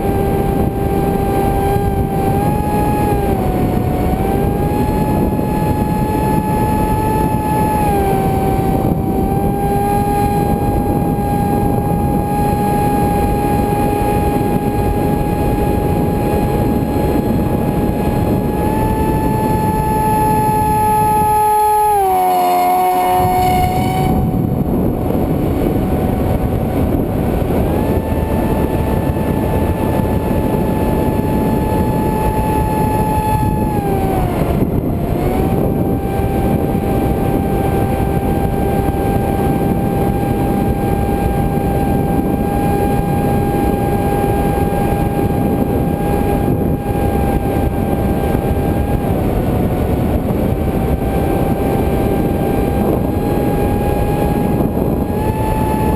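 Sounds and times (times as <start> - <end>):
model jet motor whining: 0.0 - 55.9
wind on microphone: 0.0 - 55.9.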